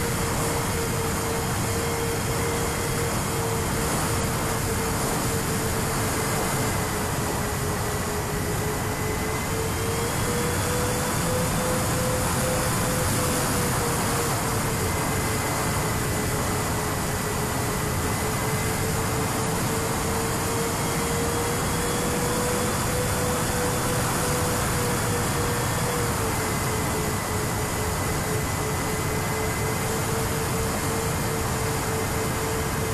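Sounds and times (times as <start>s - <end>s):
electric motors and propellers humming: 0.0s - 32.9s.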